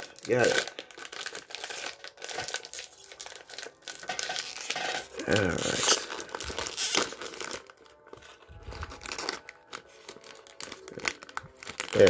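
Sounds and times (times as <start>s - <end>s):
foil package crinkling and tearing: 0.0s - 12.0s.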